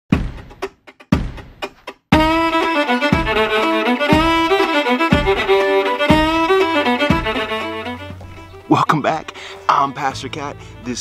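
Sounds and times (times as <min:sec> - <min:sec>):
fiddle melody over a beat: 0:00.1 - 0:11.0.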